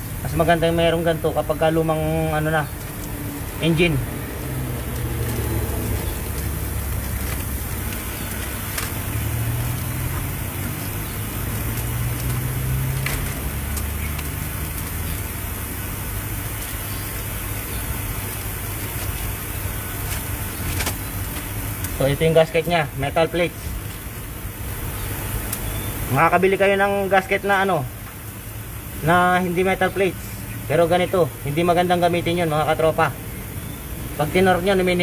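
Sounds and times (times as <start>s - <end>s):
low rumble of road traffic: 0.0s - 35.0s.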